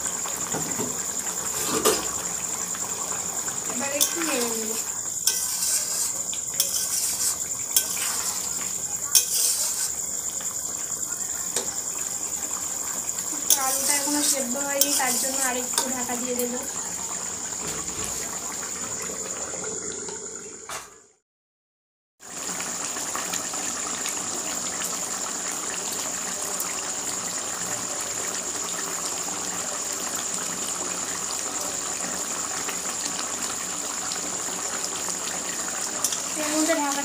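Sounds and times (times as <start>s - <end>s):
curry simmering and bubbling: 0.0s - 20.7s, 22.2s - 37.0s.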